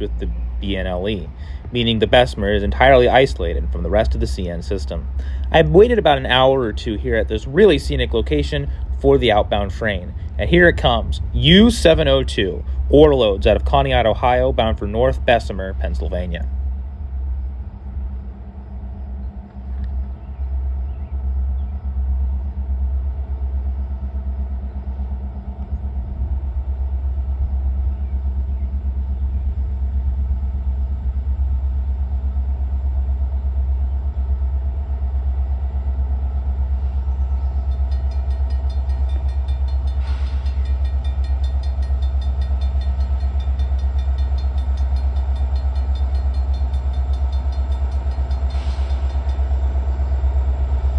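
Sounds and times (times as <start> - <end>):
diesel locomotive rumble: 0.0 - 50.9
train cars rolling on rails: 0.0 - 50.9.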